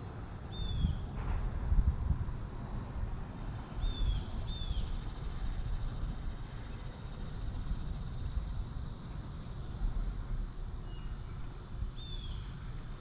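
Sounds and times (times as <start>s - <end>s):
faint insect drone: 0.0s - 13.0s
river rumble and hiss: 0.0s - 13.0s.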